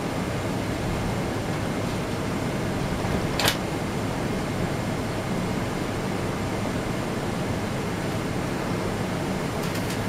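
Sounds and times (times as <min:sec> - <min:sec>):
airplane cabin engine rush: 0:00.0 - 0:10.0.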